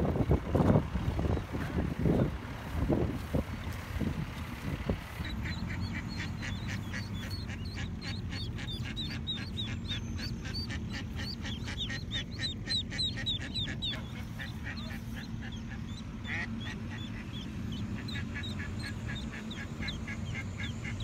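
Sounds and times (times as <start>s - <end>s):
steady low hum: 0.0s - 21.0s
ducklings peeping: 0.6s - 21.0s.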